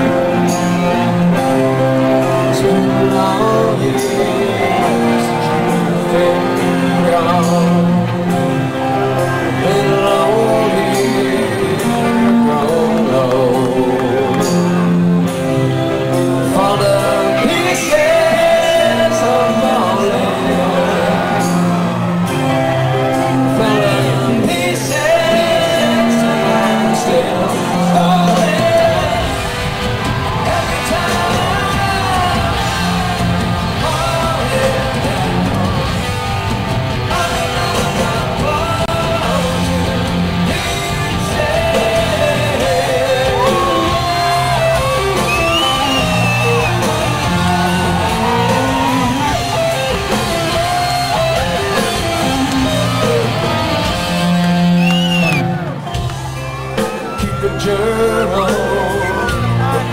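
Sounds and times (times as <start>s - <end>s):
live hard rock band: 0.0s - 59.9s
man singing lead vocals: 0.0s - 59.9s.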